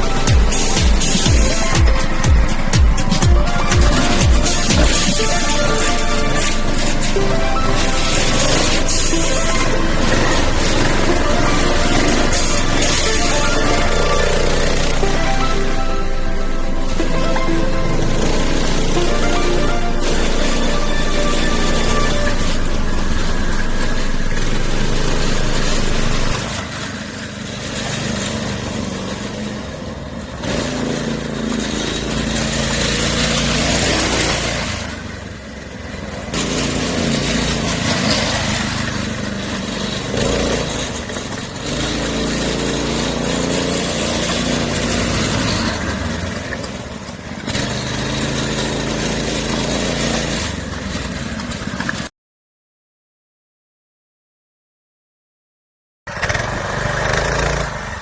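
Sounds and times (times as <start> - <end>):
kart engine revving: 0.0 - 52.1, 56.1 - 58.0.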